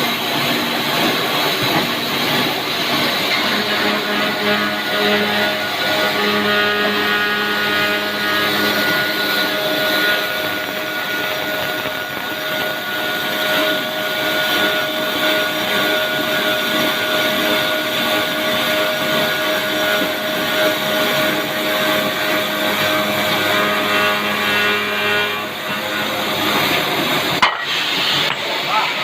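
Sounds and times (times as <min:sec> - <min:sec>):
sawing machine whining: 0:00.0 - 0:29.0.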